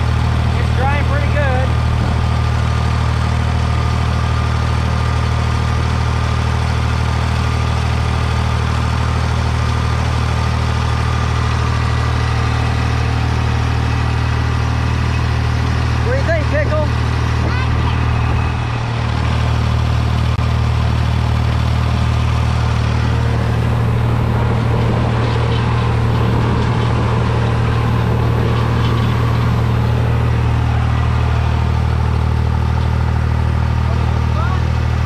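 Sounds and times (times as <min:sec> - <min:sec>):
tractor engine droning: 0:00.0 - 0:35.0.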